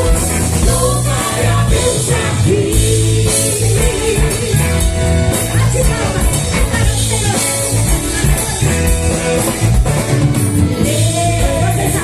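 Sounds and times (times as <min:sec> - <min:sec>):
bass: 0:00.0 - 0:12.0
drum kit: 0:00.0 - 0:12.0
guitar: 0:00.0 - 0:12.0.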